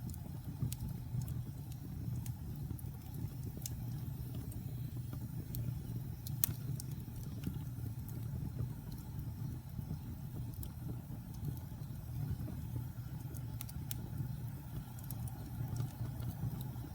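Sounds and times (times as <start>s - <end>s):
crackles and pops from logs: 0.0s - 9.7s, 10.4s - 11.9s, 13.1s - 16.9s
low rumble of flames: 0.0s - 16.9s.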